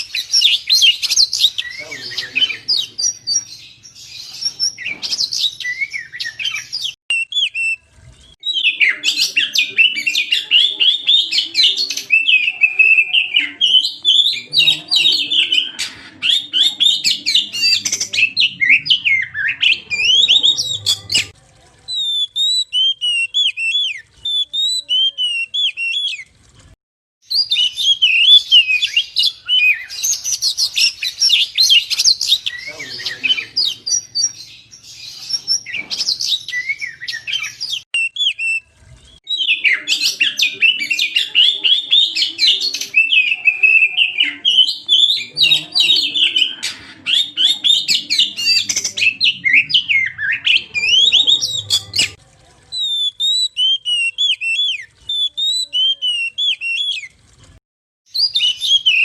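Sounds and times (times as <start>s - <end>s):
songbird whistles and trills: 0.0s - 21.3s, 21.9s - 26.3s, 27.3s - 52.2s, 52.8s - 57.1s, 58.1s - 59.0s.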